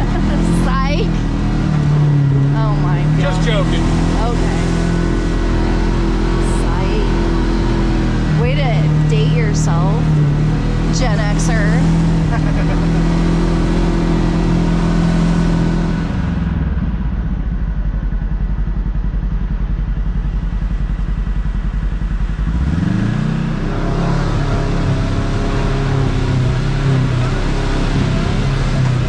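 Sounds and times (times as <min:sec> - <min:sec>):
engine revving and puttering: 0:00.0 - 0:18.2, 0:20.2 - 0:29.0.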